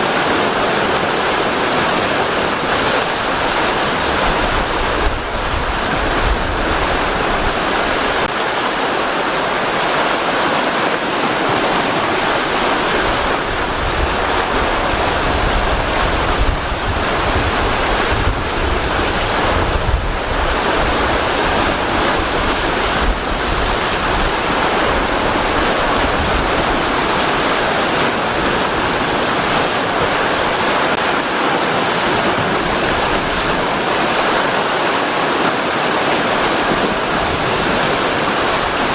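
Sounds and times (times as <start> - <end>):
waves breaking: 0.0 - 38.9
wind blowing on microphone: 0.0 - 38.9.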